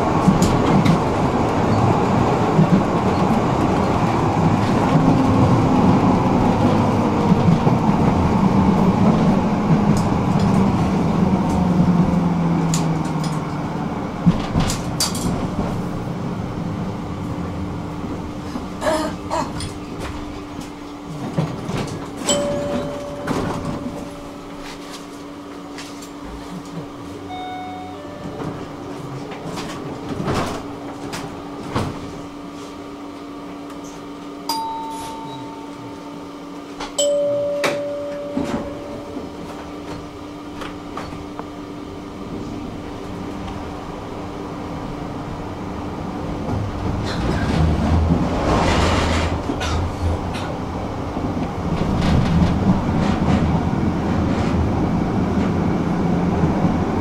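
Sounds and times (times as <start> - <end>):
tram electrical hum: 0.0 - 57.0
tram motors and wheels rumbling: 0.0 - 57.0.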